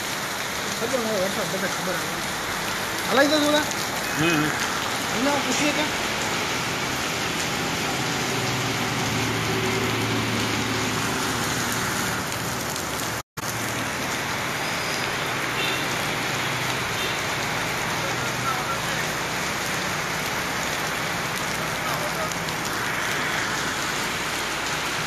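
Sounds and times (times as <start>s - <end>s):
heavy rain on wet street: 0.0s - 25.0s
faint road traffic: 0.2s - 25.0s.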